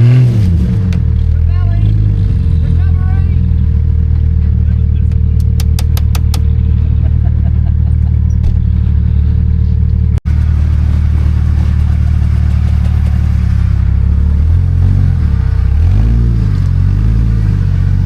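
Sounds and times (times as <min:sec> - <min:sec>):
car engine running and revving: 0:00.0 - 0:18.0.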